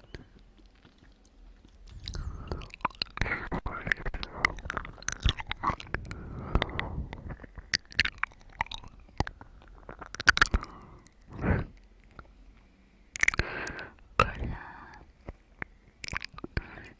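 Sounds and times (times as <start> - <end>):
wet chewing of watermelon: 0.0 - 12.6, 13.2 - 15.4, 16.0 - 16.9.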